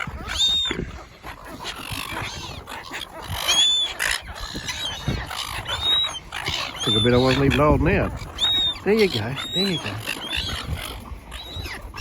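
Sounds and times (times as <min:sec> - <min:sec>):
seagulls squawking: 0:00.0 - 0:12.0.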